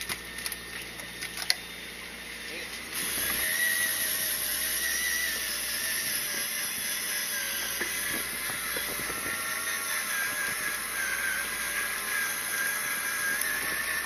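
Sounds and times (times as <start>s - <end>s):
motor whine: 0.0s - 14.0s.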